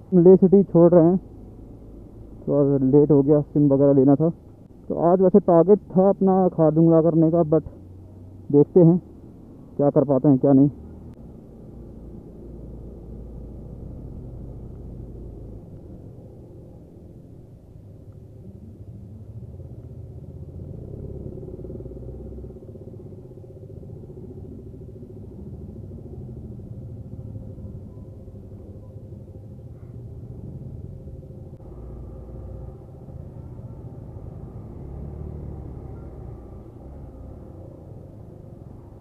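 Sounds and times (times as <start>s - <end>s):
motorcycle engine low rumble: 0.0s - 39.0s.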